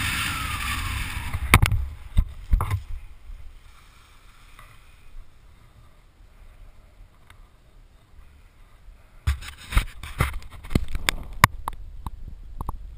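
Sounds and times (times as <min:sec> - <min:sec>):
faint wind rumble: 0:00.0 - 0:12.9.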